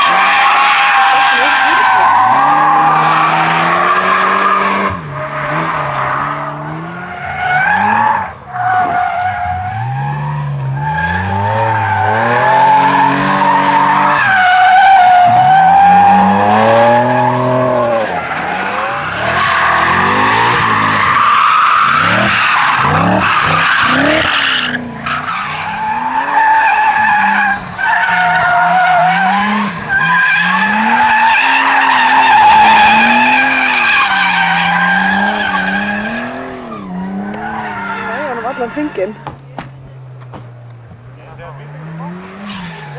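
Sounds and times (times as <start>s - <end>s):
tyre squeal: 0.0s - 6.4s, 7.0s - 39.2s, 42.3s - 42.9s
car engines revving: 0.0s - 42.9s.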